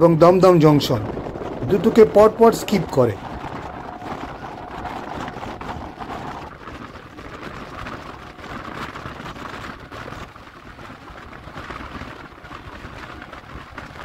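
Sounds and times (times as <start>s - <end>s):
train wheels rumbling on rails: 0.0s - 11.6s.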